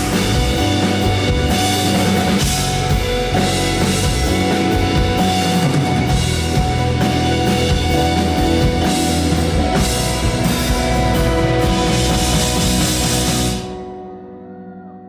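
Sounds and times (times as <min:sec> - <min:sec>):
drum kit: 0:00.0 - 0:14.0
live band playing: 0:00.0 - 0:14.2
guitar: 0:00.0 - 0:15.0.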